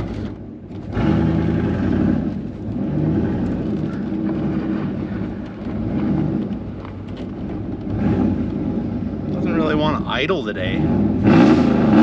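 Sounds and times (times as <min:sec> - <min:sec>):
truck engine revving roughly: 0:00.0 - 0:07.0, 0:07.8 - 0:12.0.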